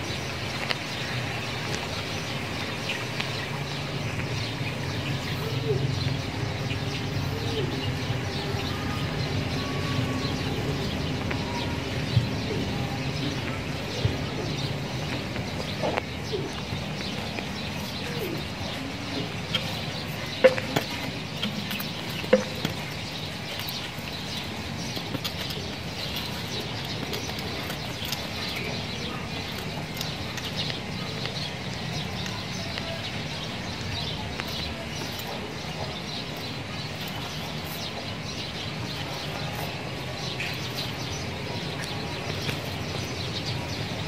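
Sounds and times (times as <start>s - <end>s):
birds chirping: 0.0s - 44.0s
outdoor background noise: 0.0s - 44.0s.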